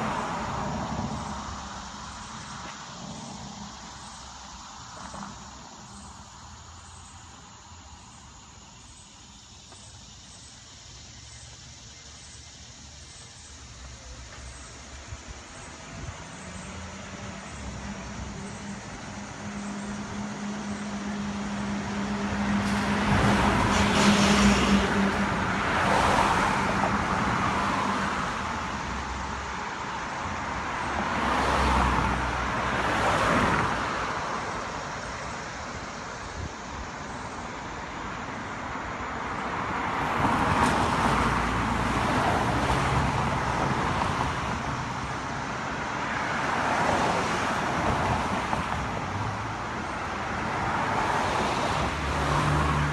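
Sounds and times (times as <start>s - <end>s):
cars passing: 0.0s - 52.9s.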